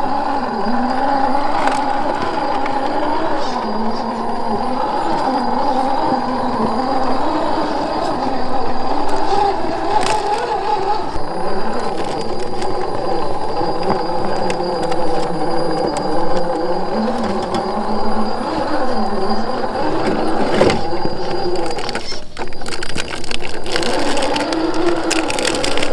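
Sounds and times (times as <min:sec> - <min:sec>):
electric motor and gearbox whining: 0:00.0 - 0:25.9.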